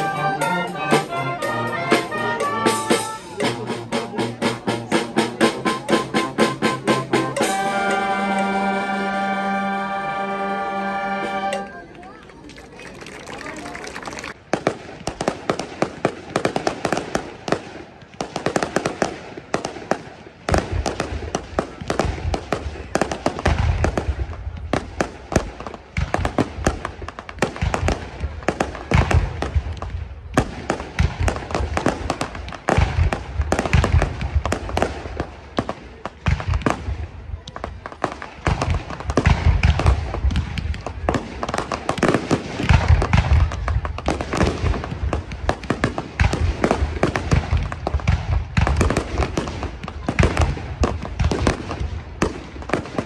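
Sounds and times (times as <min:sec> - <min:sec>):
firework bangs and crackling: 0:02.7 - 0:08.8, 0:12.0 - 0:53.0.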